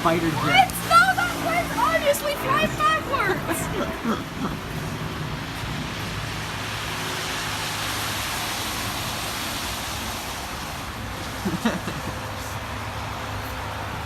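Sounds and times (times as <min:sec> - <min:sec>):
car tyres hissing on wet road: 0:00.0 - 0:14.0
low traffic hum: 0:00.0 - 0:14.0
steady rain: 0:00.0 - 0:14.0.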